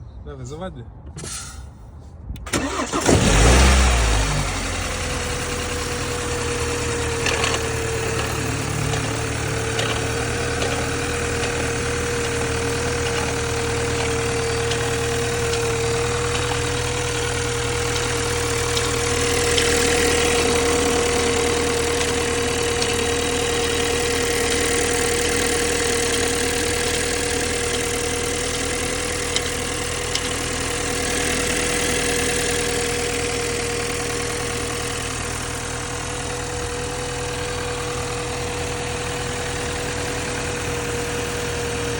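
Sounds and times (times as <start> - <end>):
constant engine whine: 0.0 - 41.9
car engine cold start and idle: 2.4 - 41.9.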